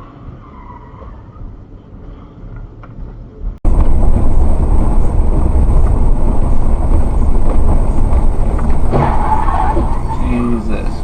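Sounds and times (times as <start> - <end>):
vehicle rumbling on road: 0.0 - 11.0.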